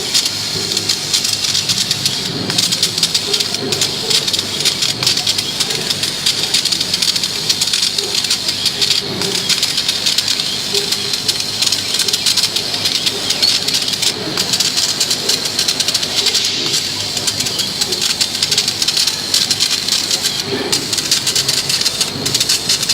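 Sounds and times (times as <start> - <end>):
laser cutter hissing and crackling: 0.0 - 22.9.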